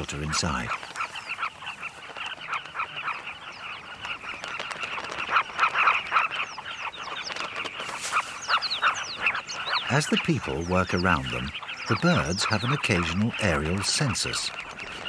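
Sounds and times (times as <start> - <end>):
bird colony calling: 0.0 - 15.0.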